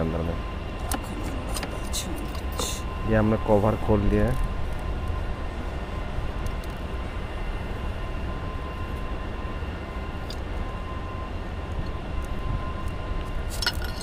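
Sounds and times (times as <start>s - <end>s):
faint whine: 0.0s - 14.0s.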